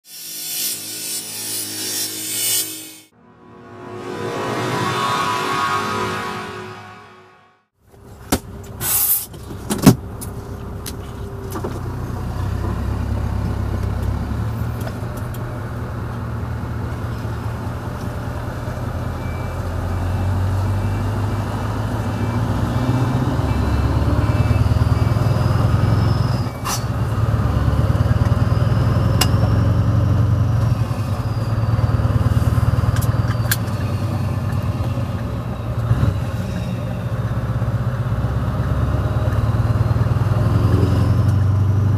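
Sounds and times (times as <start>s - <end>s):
diesel truck engine rumble: 7.9s - 41.9s.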